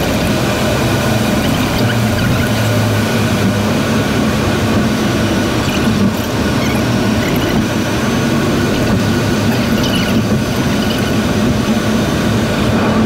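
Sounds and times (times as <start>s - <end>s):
car road and tyre noise: 0.0s - 13.0s
truck low hum: 0.0s - 13.0s.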